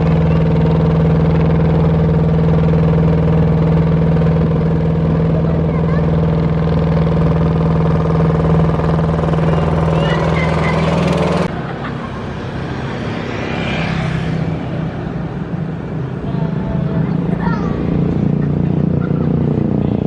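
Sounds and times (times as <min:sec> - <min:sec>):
boat engine running: 0:00.0 - 0:12.6, 0:14.8 - 0:20.0.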